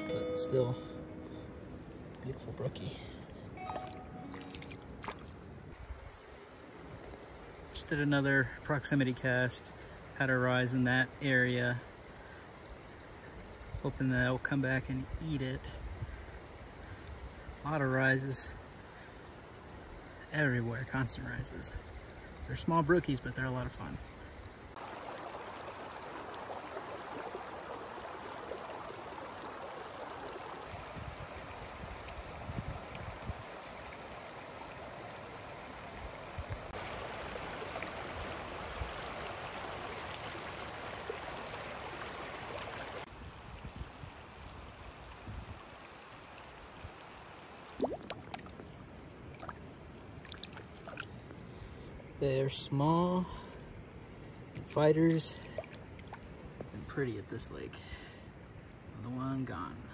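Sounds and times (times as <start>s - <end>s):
stream running over rocks: 2.0s - 15.6s, 16.2s - 57.7s.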